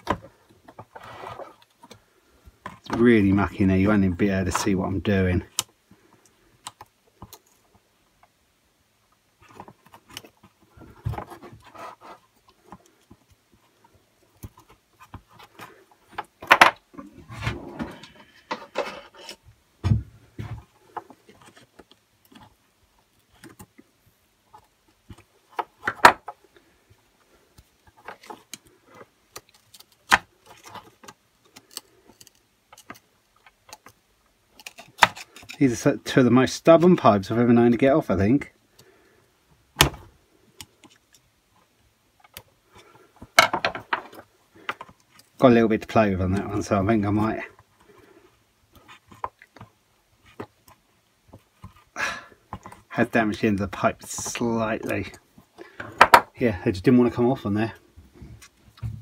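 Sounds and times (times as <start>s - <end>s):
rubber pipe rustling: 0.0s - 7.9s, 9.3s - 39.2s, 39.8s - 59.0s.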